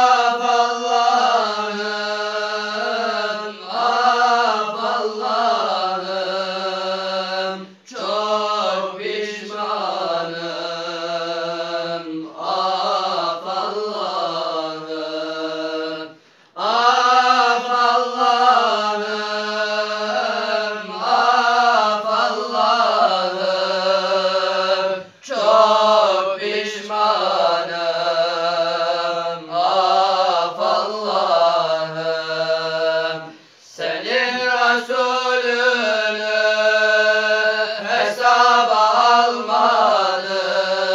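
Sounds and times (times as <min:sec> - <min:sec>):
male voices chanting: 0:00.0 - 0:40.9.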